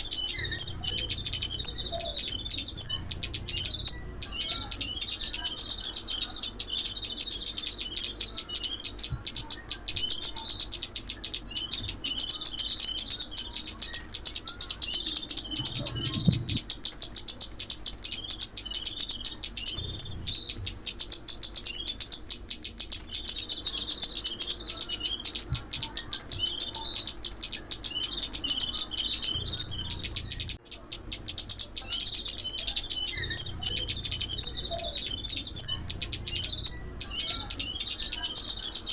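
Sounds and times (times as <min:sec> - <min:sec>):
sunbird twittering chirps: 0:00.0 - 0:38.9.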